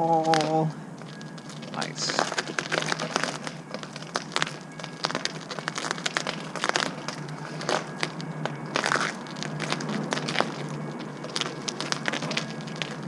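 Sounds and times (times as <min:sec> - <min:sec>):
footsteps crunching on snow: 0:00.0 - 0:13.0.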